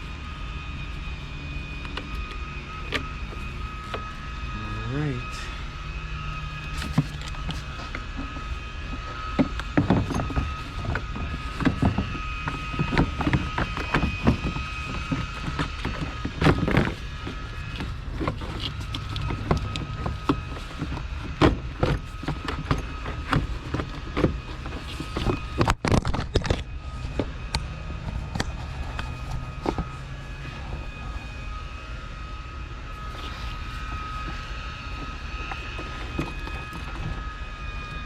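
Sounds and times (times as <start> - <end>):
faint high whine: 0.0 - 38.0.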